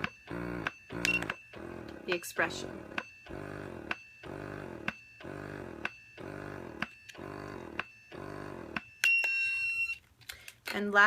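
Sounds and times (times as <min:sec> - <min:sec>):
breast pump motor hum: 0:00.0 - 0:08.9.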